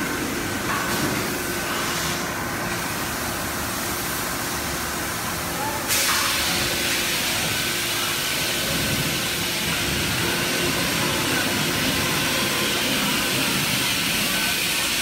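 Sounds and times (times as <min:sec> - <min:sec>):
machine hiss: 0:00.5 - 0:15.0.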